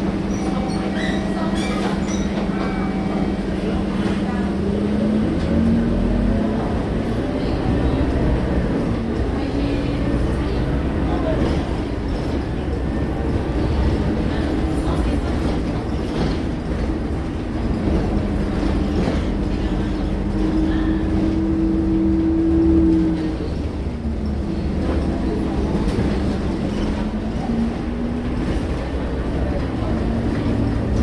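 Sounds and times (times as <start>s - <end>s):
bus diesel engine rumbling: 0.0s - 31.0s.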